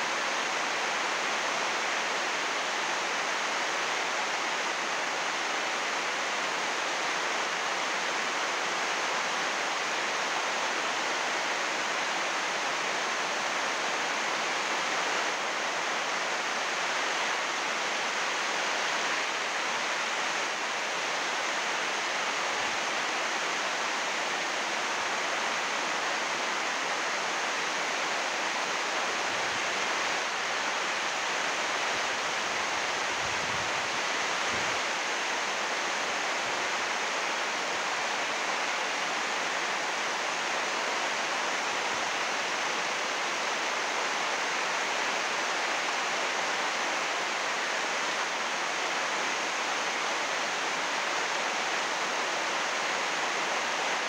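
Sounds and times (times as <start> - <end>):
heavy rain on plastic roof: 0.0 - 54.0.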